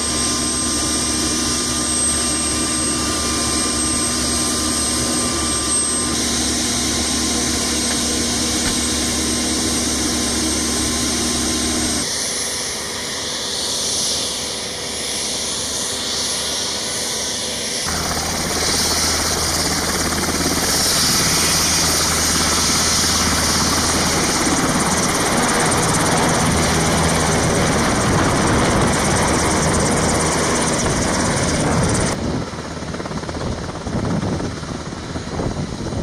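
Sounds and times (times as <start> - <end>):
helicopter engines whining: 0.0 - 36.0
helicopter rotor noise: 0.0 - 36.0.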